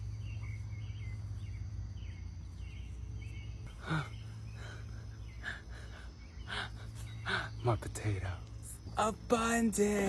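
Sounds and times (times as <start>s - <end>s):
faint bird chirps: 0.0s - 10.0s
low outdoor rumble: 0.0s - 10.0s.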